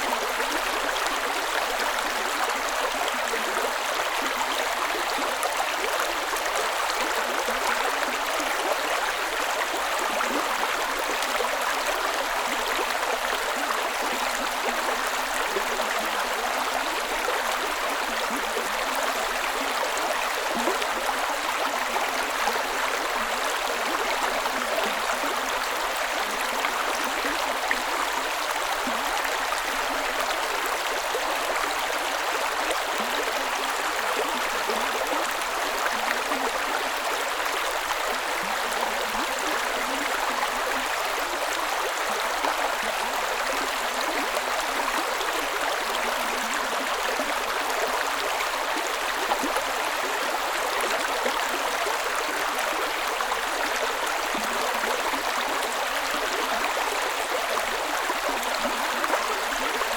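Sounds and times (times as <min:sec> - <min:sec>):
creek water running over rocks: 0:00.0 - 0:59.9.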